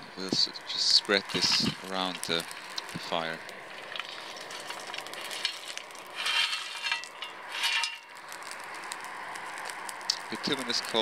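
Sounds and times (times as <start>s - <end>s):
coal rattling onto fire: 0.2s - 11.0s.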